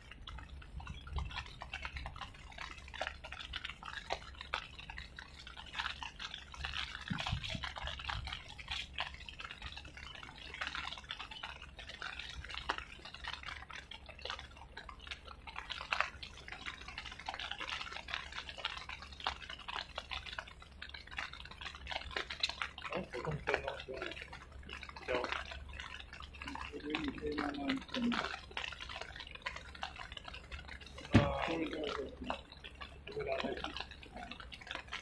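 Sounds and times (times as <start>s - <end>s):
water dripping and splashing: 0.0s - 35.0s.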